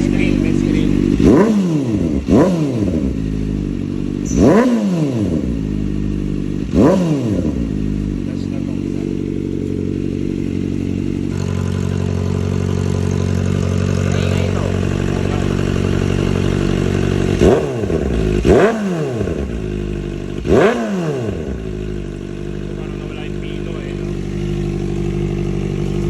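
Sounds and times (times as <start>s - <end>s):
motorcycle engine idling: 0.0s - 26.0s
motorcycle throttle blips: 0.0s - 26.0s.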